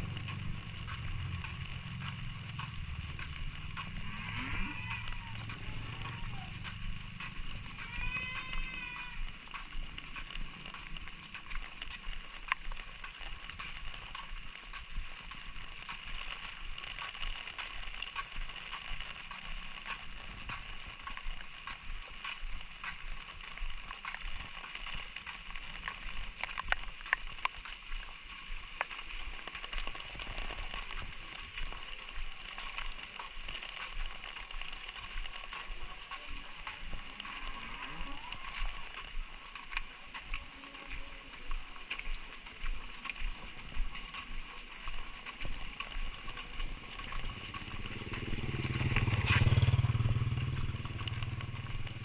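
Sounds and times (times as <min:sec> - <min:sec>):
light drizzle falling: 0:00.0 - 0:52.0.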